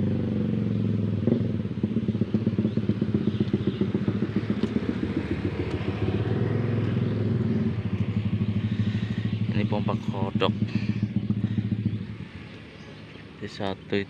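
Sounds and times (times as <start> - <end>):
engine idling: 0.8 - 14.0.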